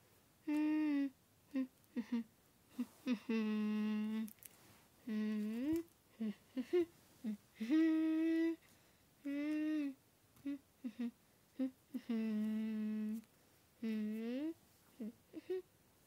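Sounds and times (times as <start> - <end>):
person humming: 0.4 - 4.4, 5.0 - 15.7.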